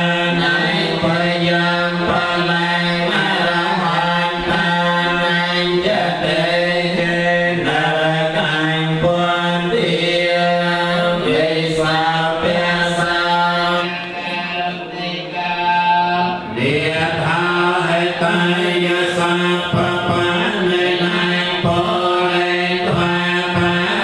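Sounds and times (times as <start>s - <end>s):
group chanting in unison: 0.0s - 24.0s.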